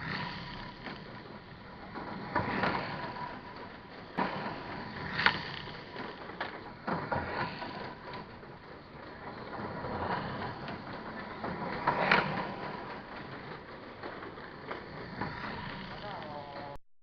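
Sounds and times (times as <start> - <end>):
little cars rattling: 0.0 - 16.8
sharp clacks: 0.0 - 16.8.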